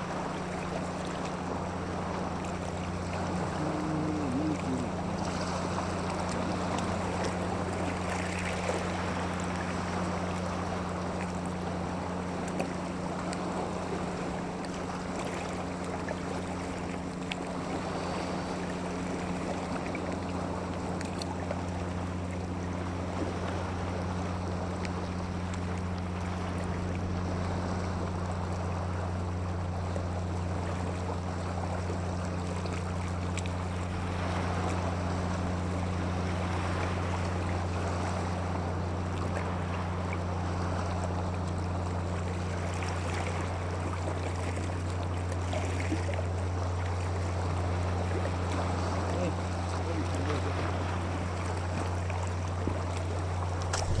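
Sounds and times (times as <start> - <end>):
low motor hum: 0.0 - 54.0
water rushing: 0.0 - 54.0.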